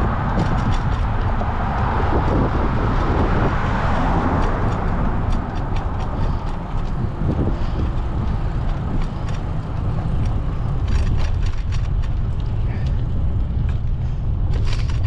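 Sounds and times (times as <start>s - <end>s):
bicycle ticks and rattles: 0.0s - 15.0s
city street traffic: 0.0s - 15.0s
steady low rumble: 0.0s - 15.0s
vehicle passing: 0.0s - 15.0s.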